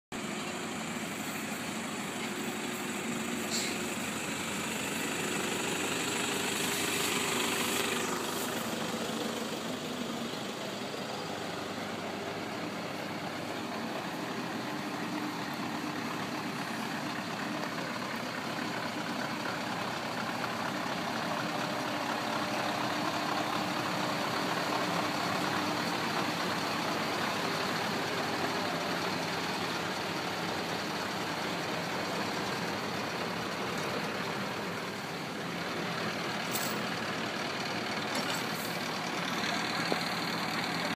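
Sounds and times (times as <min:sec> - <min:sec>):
truck diesel engine running: 0:00.1 - 0:40.9
pickup engine passing: 0:00.2 - 0:40.9.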